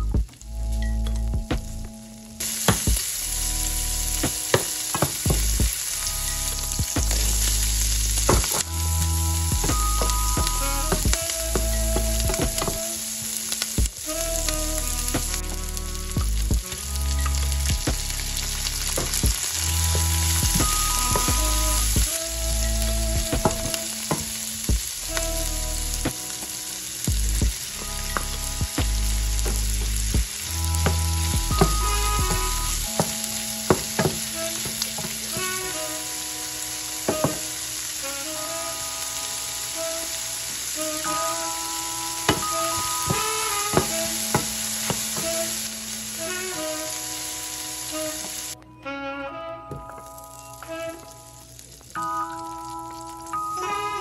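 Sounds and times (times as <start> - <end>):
food sizzling in a frying pan: 2.3 - 16.2, 16.9 - 48.6, 50.0 - 54.0.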